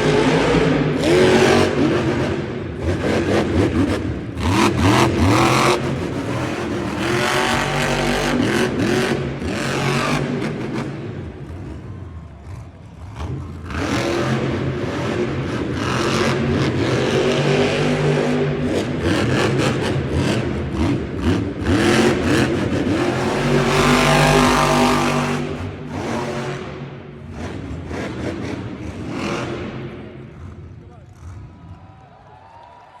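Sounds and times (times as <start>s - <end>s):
truck engine revving: 0.0s - 31.8s.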